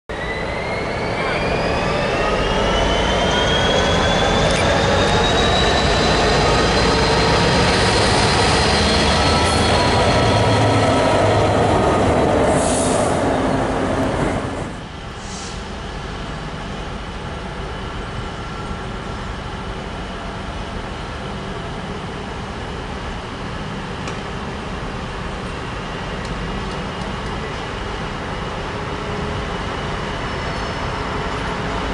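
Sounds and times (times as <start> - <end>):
diesel locomotive engine running hard: 0.1 - 31.9
locomotive whine: 0.1 - 31.9.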